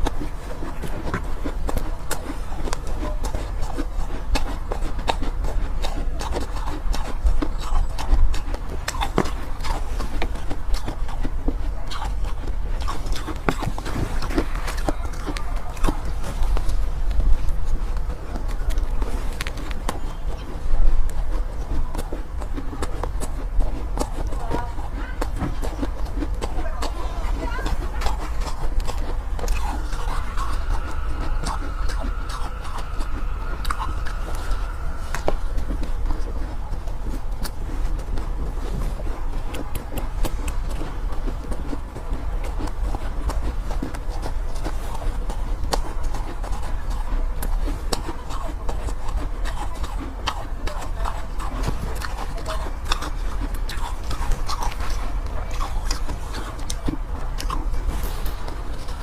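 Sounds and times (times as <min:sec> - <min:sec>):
ice crunching while chewed: 0:00.0 - 0:59.0
low hum: 0:00.0 - 0:59.0
low rumble: 0:00.0 - 0:59.0.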